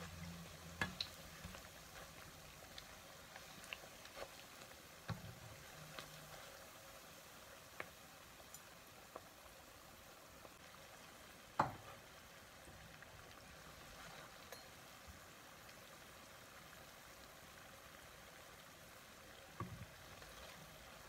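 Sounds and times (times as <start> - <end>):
oil sizzling in frying pan: 0.0 - 21.0.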